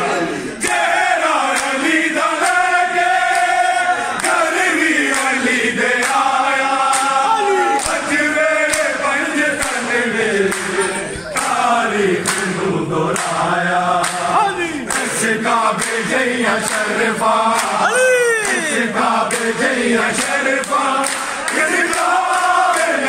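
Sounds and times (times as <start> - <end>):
men chanting and singing: 0.0 - 23.0
sharp claps: 1.5 - 2.7, 3.3 - 7.2, 7.8 - 13.4, 14.0 - 23.0.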